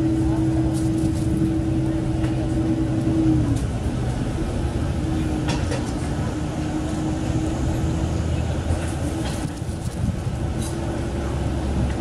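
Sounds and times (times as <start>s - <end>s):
diesel railcar engine humming: 0.0s - 12.0s.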